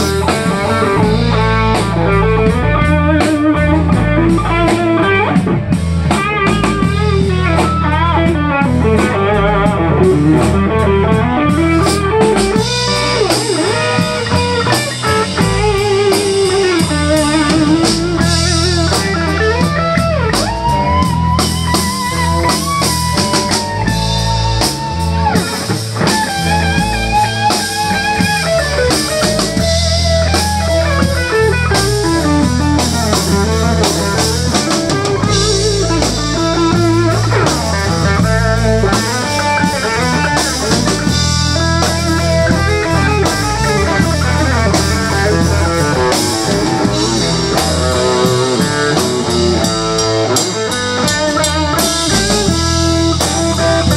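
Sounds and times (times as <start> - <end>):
drum kit steady beat: 0.0 - 53.9
electric bass: 0.0 - 53.9
electric guitar lead: 0.0 - 53.9.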